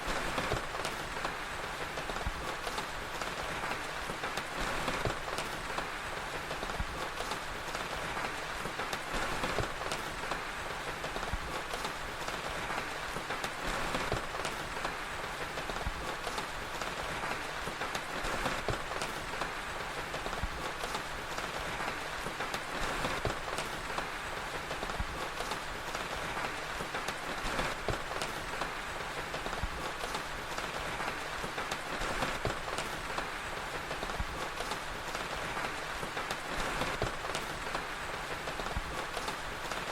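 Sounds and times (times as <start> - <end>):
fire popping and crackling: 0.0 - 39.9
steady rain hiss: 0.0 - 39.9.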